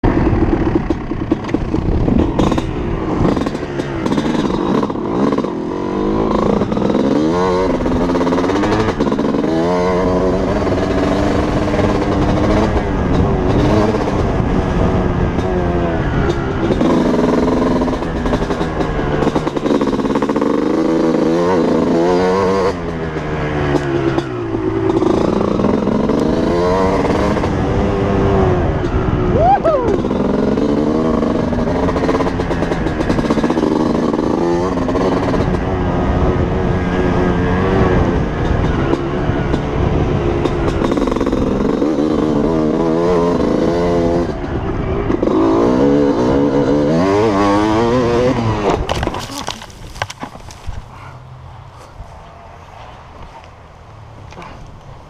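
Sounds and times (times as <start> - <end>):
dirt bike engine revving: 0.1 - 52.0.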